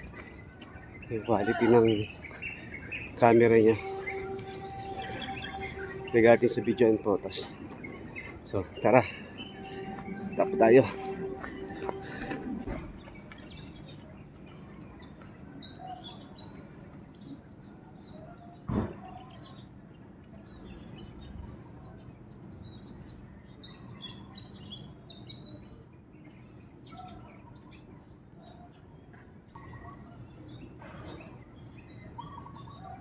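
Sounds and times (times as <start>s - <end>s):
small birds chirping: 0.0s - 12.2s, 12.8s - 33.0s.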